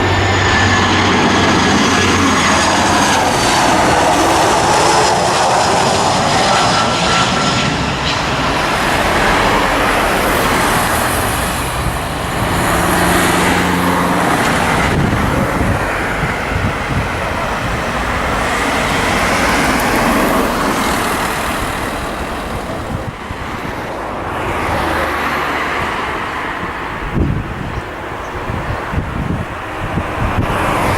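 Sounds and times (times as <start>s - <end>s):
jet engines roaring: 0.0s - 30.9s.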